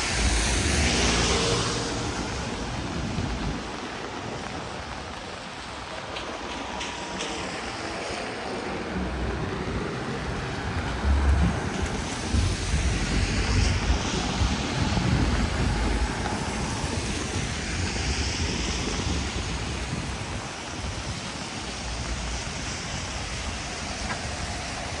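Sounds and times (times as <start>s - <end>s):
car tyres hissing on wet pavement: 0.0s - 25.0s
wind rumble on microphone: 0.0s - 25.0s.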